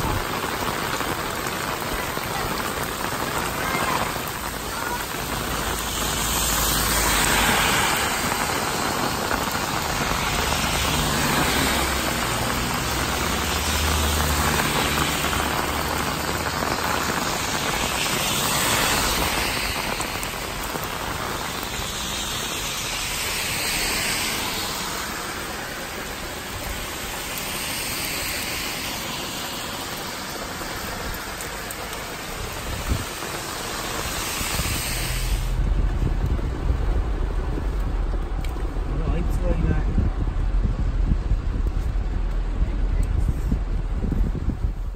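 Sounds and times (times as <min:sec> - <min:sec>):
heavy rain on pavement: 0:00.0 - 0:44.9.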